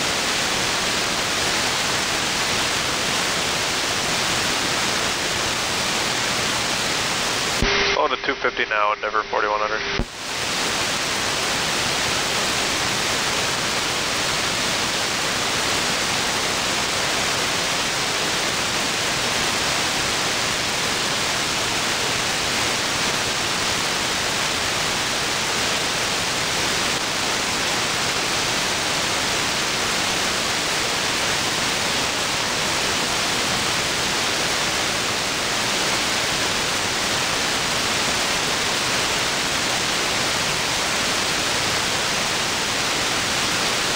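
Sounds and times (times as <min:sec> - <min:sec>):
radio static hiss: 0:00.0 - 0:43.9.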